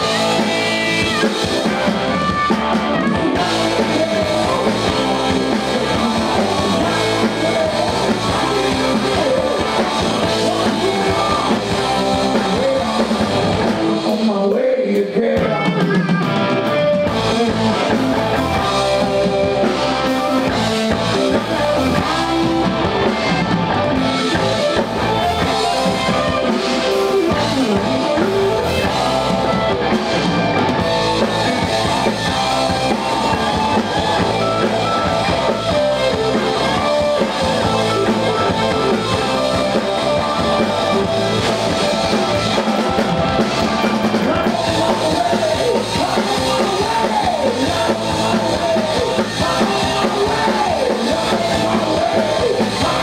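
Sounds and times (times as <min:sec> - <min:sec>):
drum kit: 0:00.0 - 0:53.0
electric guitars: 0:00.0 - 0:53.0.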